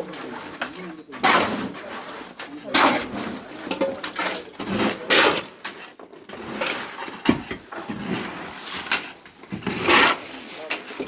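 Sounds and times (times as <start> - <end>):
scraping and clattering: 0.0 - 11.0.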